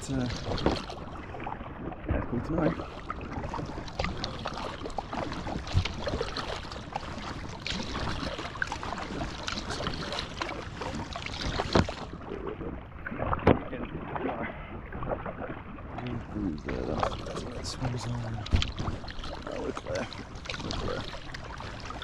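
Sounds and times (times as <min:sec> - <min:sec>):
paddle splashing in water: 0:00.0 - 0:22.0.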